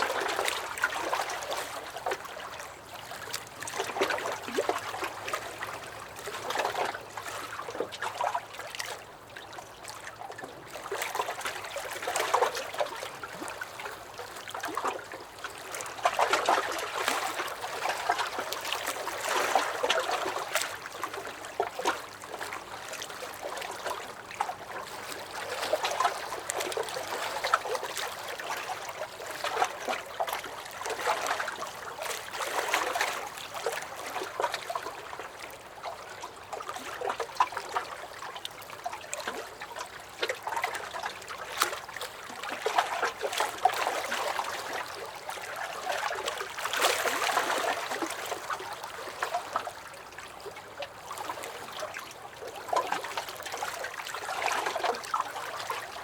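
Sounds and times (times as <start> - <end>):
waves lapping against a dock: 0.0 - 56.0.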